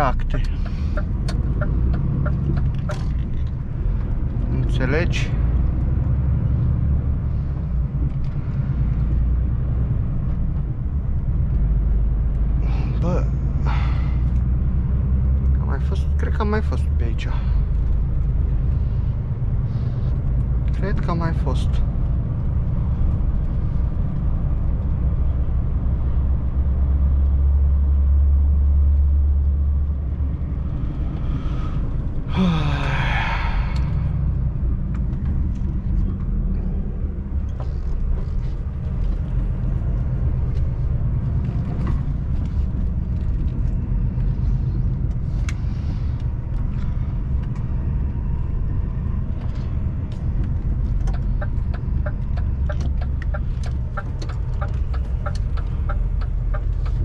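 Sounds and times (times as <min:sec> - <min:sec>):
lorry engine and road noise: 0:00.0 - 0:57.0.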